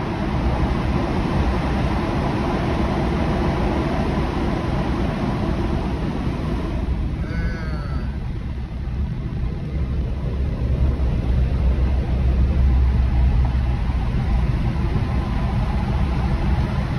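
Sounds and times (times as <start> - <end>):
car cabin road and engine rumble: 0.0 - 16.9.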